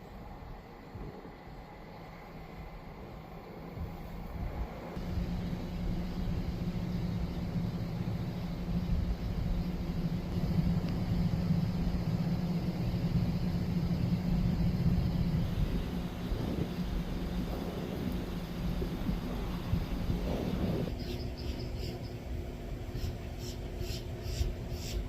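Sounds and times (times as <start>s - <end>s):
large engine droning hum: 0.0s - 25.0s.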